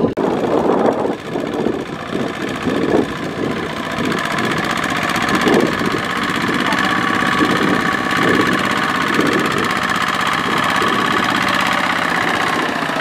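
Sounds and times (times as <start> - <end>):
diesel tractor engine chugging: 0.0 - 13.0.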